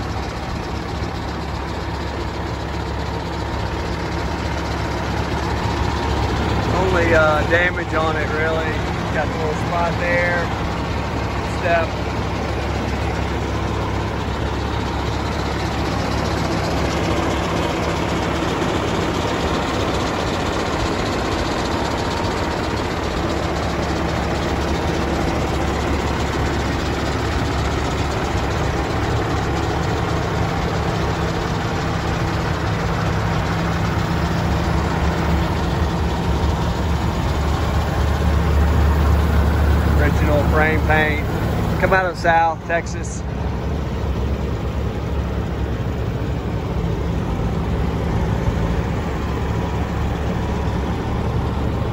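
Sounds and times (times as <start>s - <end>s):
diesel truck engine idling: 0.0s - 51.9s.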